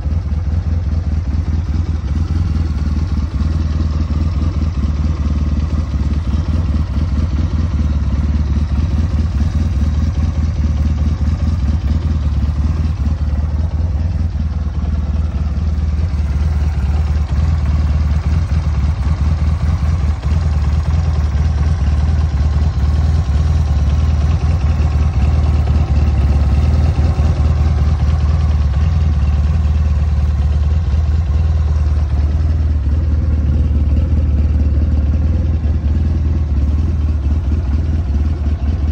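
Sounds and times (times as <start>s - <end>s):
quad engine idling: 0.0s - 38.9s.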